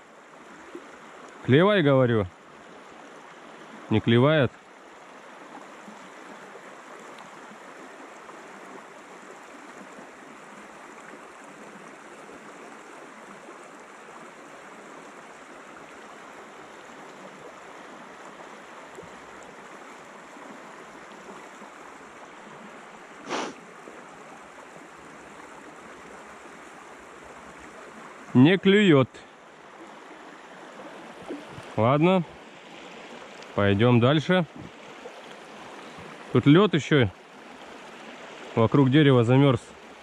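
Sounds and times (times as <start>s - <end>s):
water rushing through river riffle: 0.0s - 40.0s.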